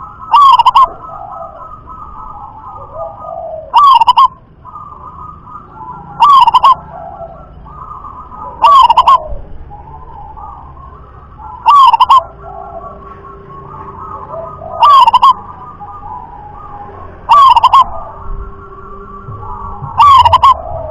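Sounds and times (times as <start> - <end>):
dove cooing calls: 0.0 - 20.9
faint cooing of other doves: 0.0 - 20.9.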